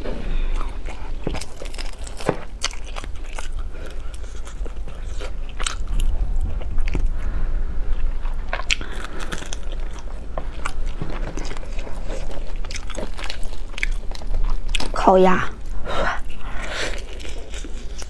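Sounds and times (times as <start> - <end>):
person chewing crunchy food: 0.2 - 15.0, 15.6 - 18.0.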